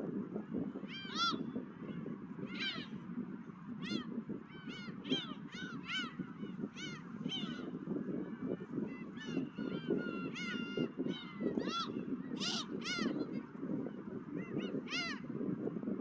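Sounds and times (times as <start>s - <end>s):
low rush of wind: 0.0s - 16.0s
gulls calling: 0.7s - 3.0s, 3.7s - 15.3s.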